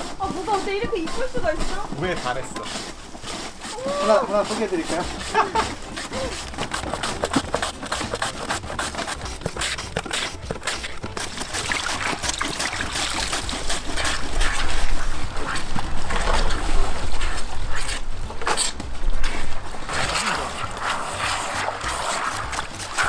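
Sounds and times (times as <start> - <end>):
water running from hose into basin: 0.0 - 23.0
water splashing and sloshing: 0.0 - 23.0.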